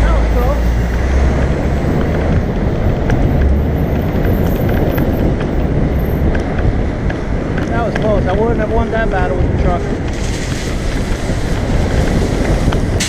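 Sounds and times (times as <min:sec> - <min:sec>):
low rumble of traffic engines: 0:00.0 - 0:13.0
wind buffeting microphone: 0:00.0 - 0:13.0.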